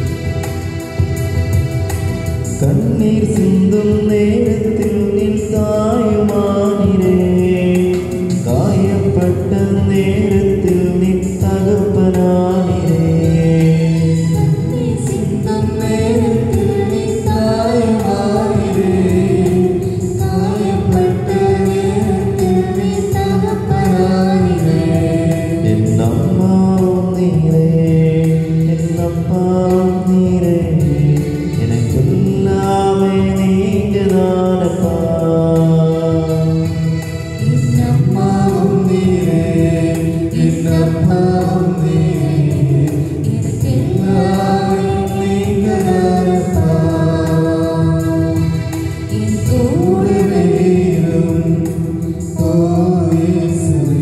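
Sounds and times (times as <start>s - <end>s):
hymn singing with accompaniment: 0.0s - 54.0s.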